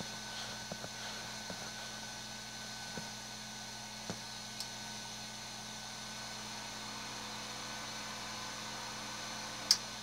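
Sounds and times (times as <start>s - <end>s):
faint electrical hum: 0.0s - 10.0s
steady hiss: 0.0s - 10.0s.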